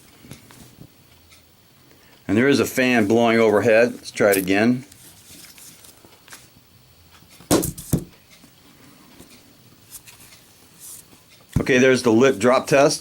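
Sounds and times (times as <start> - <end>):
fan hissing faintly: 0.0 - 13.0.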